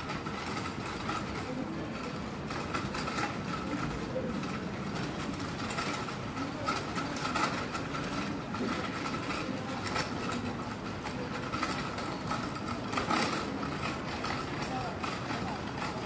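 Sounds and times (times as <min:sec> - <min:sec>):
scattered clicks and knocks: 0:00.0 - 0:16.0.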